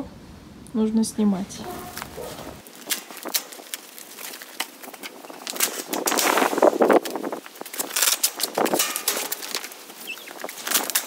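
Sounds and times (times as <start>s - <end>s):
plastic banners rustling and crackling: 1.5s - 11.0s.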